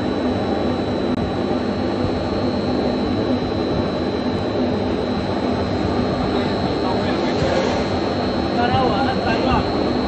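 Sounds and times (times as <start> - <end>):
high-pitched machine whine: 0.0 - 10.0
pipe turning machine running: 0.0 - 10.0.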